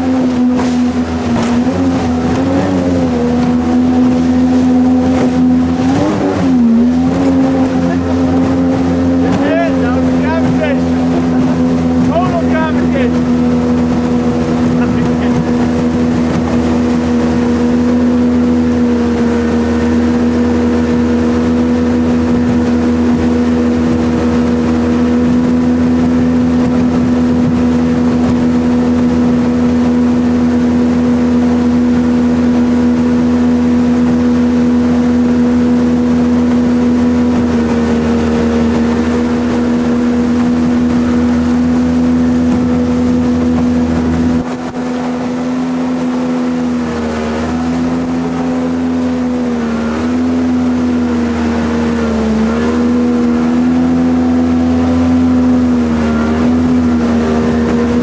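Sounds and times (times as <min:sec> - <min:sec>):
jet boat engine running: 0:00.0 - 0:58.0.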